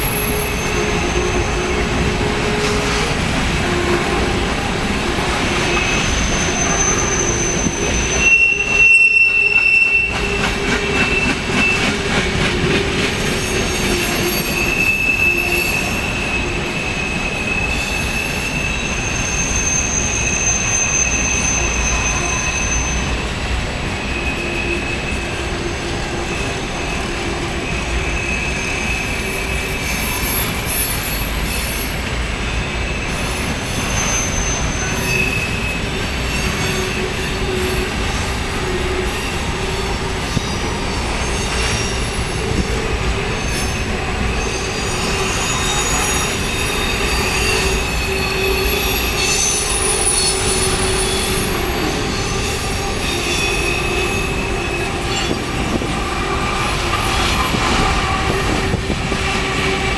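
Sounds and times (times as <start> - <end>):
rail cars rolling on rails: 0.0 - 59.9
high-pitched wheel squeal: 5.5 - 12.3, 13.1 - 23.2, 24.0 - 32.0, 32.6 - 59.9.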